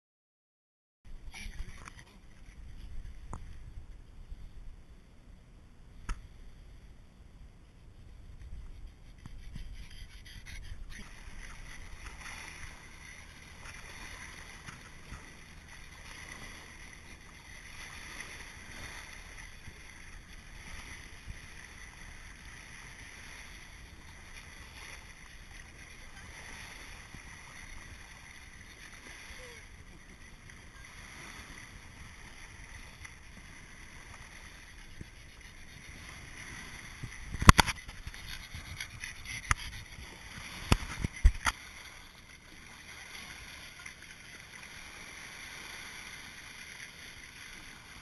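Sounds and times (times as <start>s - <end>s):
wind rumbling on microphone: 1.1s - 48.0s
shallow surf foaming: 8.2s - 48.0s.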